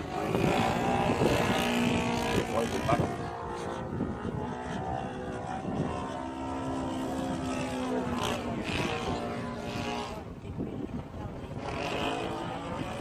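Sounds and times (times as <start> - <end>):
model plane engine and propeller: 0.0 - 13.0.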